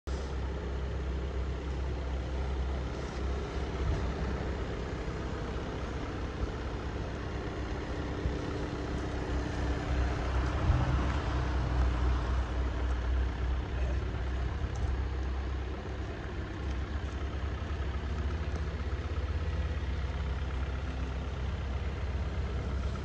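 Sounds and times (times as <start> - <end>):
diesel engine idling: 0.1 - 23.0.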